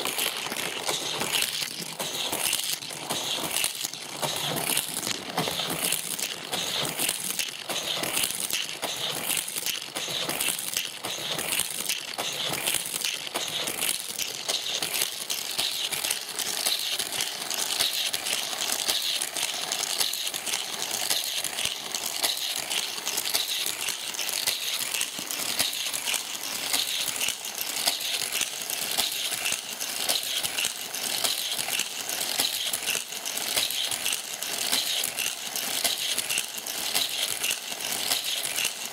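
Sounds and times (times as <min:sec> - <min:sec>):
toy cars rattling on plastic track: 0:00.0 - 0:38.9.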